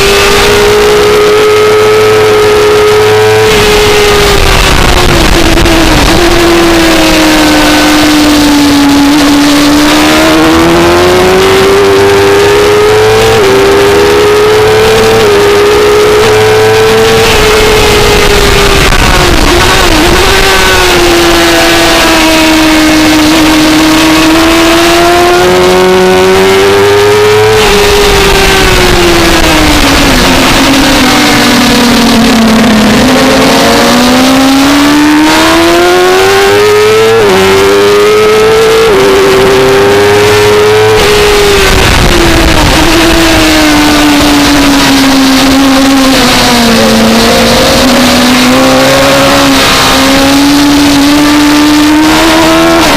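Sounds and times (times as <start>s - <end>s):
motorcycle engine at race pace: 0.0s - 52.9s.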